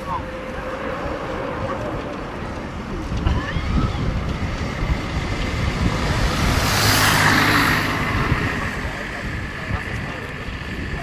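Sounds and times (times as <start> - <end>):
distant jet engines roaring: 0.0 - 11.0
wind rumbling on microphone: 0.0 - 11.0.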